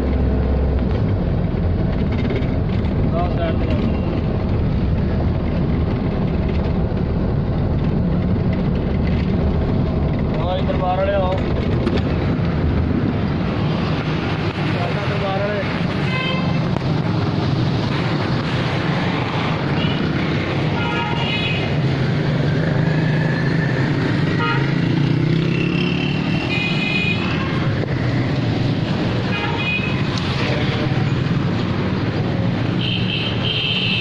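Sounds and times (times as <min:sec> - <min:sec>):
traffic engine drone: 0:00.0 - 0:34.0.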